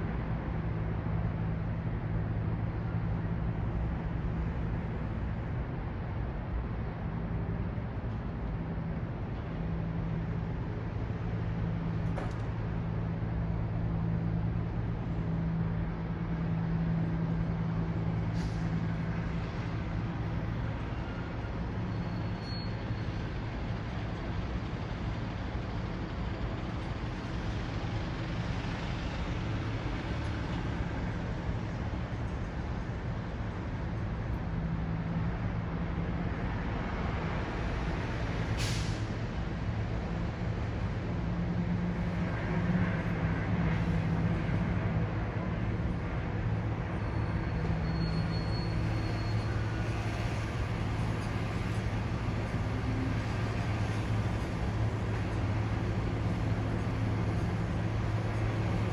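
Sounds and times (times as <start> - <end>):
large vehicle engine hum: 0.0 - 58.9.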